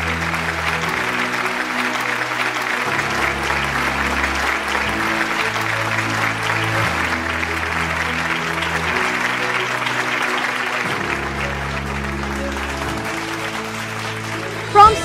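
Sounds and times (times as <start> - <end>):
applause: 0.0 - 15.0
background music with low chords: 0.0 - 15.0.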